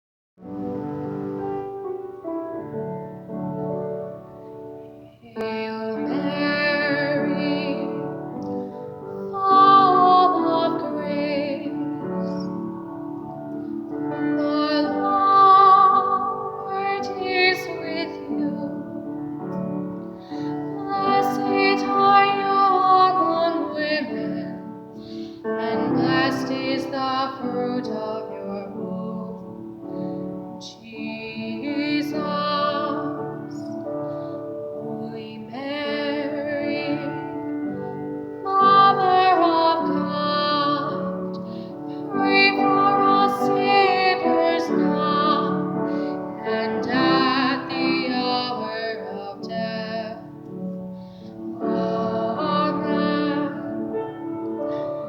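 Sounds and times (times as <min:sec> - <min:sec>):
soft piano accompaniment: 0:00.4 - 0:55.0
woman singing a hymn: 0:05.1 - 0:29.9, 0:30.6 - 0:55.0.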